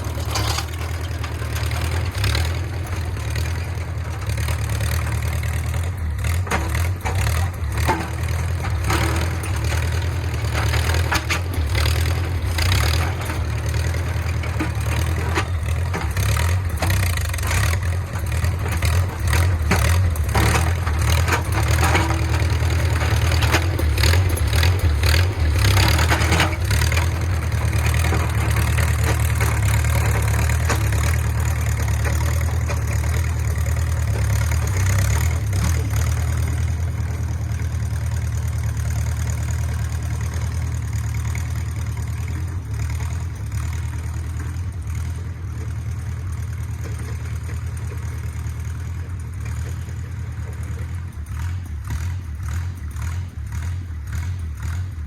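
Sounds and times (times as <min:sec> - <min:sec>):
bulldozer engine running: 0:00.0 - 0:55.0
metallic clanks and rattles: 0:00.0 - 0:55.0.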